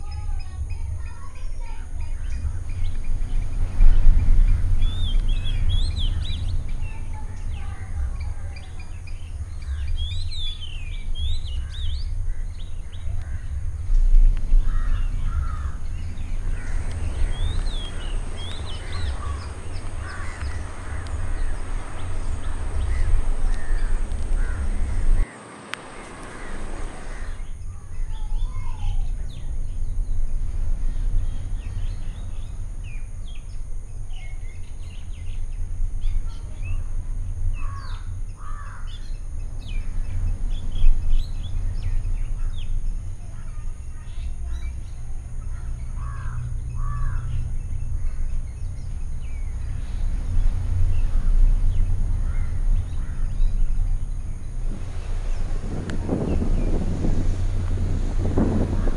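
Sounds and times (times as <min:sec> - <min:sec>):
birds chirping and calling: 0:00.0 - 0:58.9
low rumble: 0:00.0 - 0:58.9.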